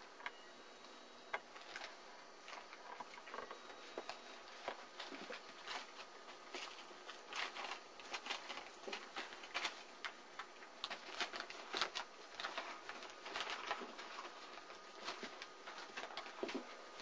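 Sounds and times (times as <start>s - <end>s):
puppy claws clicking and scratching: 1.6s - 17.0s.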